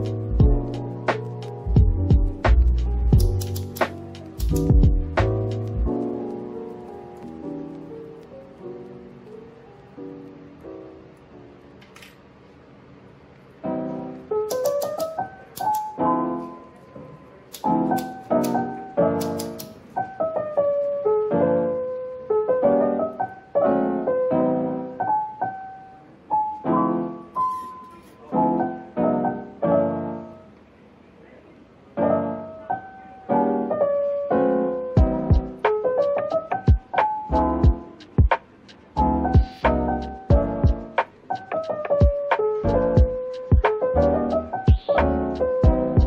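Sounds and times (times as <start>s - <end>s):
soft piano chords: 0.0s - 46.0s.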